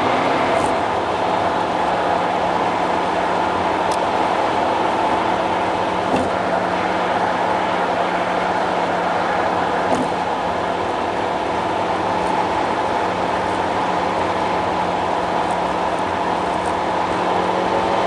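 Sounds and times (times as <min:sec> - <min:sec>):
car road and tyre noise: 0:00.0 - 0:18.0
constant low hum: 0:00.0 - 0:18.0.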